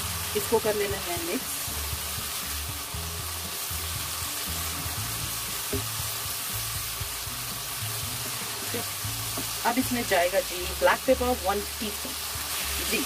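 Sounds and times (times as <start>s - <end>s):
background music: 0.0s - 13.0s
vegetables sizzling in a wok: 0.0s - 13.0s.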